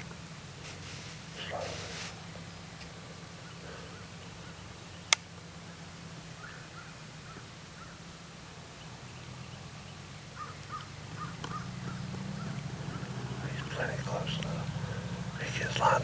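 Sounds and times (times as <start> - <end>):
steady low hum: 0.0 - 16.0
faint short bird calls: 0.6 - 8.1, 10.3 - 16.0.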